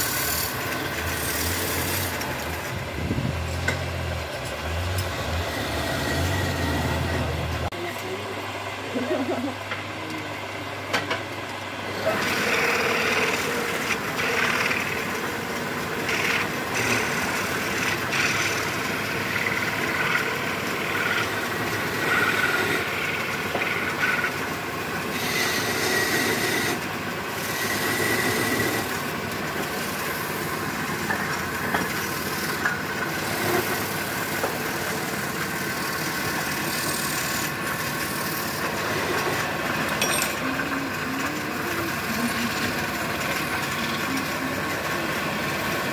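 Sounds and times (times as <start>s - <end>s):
lathe tool scraping wood: 0.0s - 7.7s, 11.9s - 45.9s.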